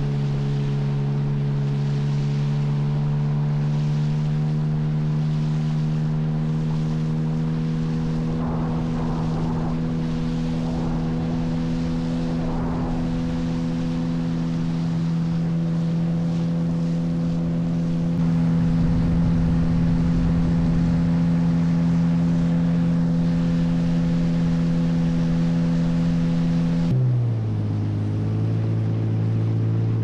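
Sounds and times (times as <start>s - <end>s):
outboard boat engine running: 0.0s - 30.0s.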